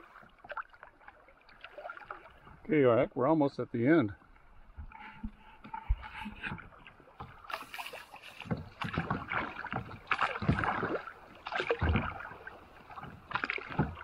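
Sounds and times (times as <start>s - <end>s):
water splashing against kayak hull: 0.0s - 14.0s.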